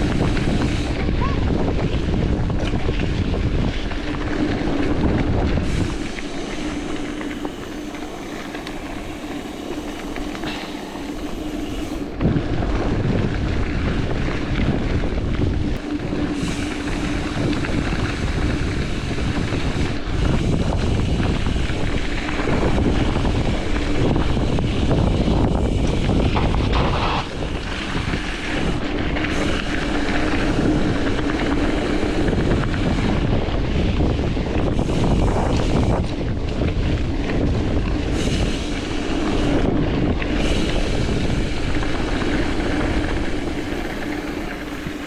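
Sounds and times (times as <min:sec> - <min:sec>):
mountain bike rolling on rough trail: 0:00.0 - 0:45.0
steady hum: 0:00.0 - 0:45.0
wind buffeting microphone: 0:00.0 - 0:45.0.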